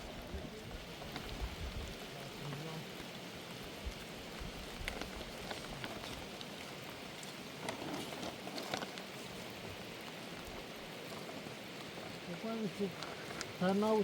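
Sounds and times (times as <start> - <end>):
raindrops clicking: 0.0 - 14.0
steady rain: 0.0 - 14.0.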